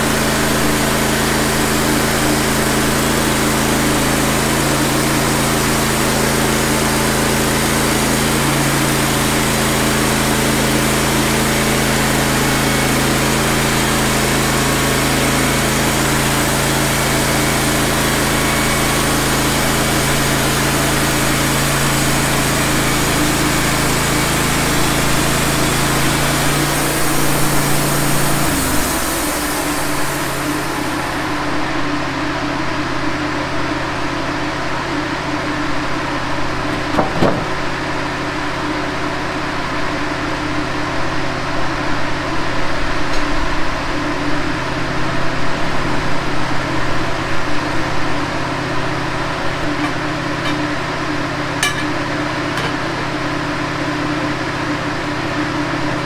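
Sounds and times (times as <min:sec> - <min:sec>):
band sawmill cutting a log: 0:00.0 - 0:56.0.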